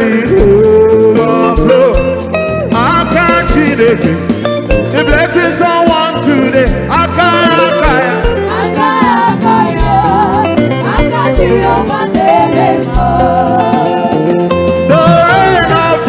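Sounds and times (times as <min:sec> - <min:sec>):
gospel band playing: 0:00.0 - 0:16.0
person singing on microphone: 0:00.0 - 0:16.0.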